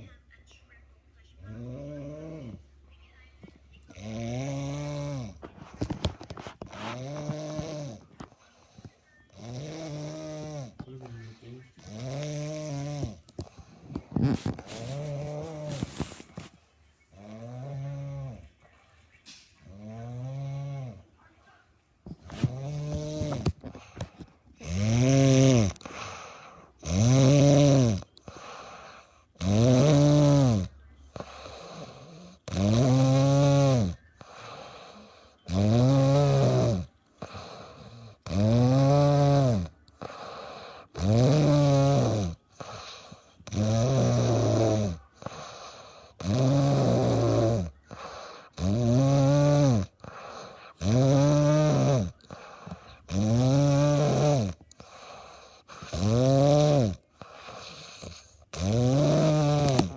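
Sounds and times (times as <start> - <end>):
quiet breaths: 0.0 - 59.9
loud pitched snoring: 1.5 - 2.6, 4.0 - 5.4, 6.8 - 8.1, 9.3 - 10.8, 11.8 - 16.2, 17.2 - 18.4, 19.7 - 21.0, 22.3 - 24.0, 24.6 - 59.9.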